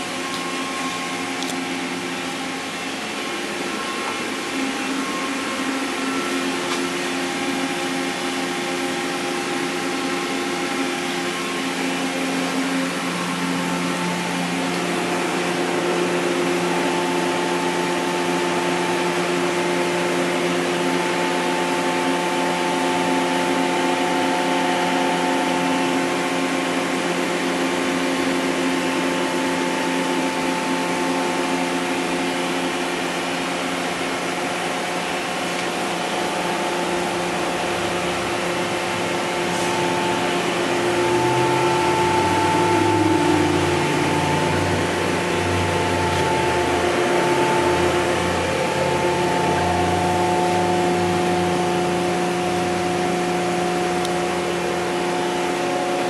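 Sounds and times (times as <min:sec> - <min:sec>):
higher hum tone: 0:00.0 - 0:56.0
machine cooling fans whirring: 0:00.0 - 0:56.0
steady hum tones: 0:00.0 - 0:56.0.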